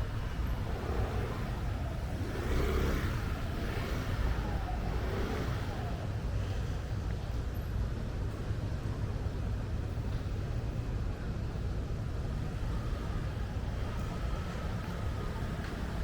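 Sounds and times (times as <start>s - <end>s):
passing vehicles rumbling: 0.0s - 8.5s, 11.5s - 16.0s.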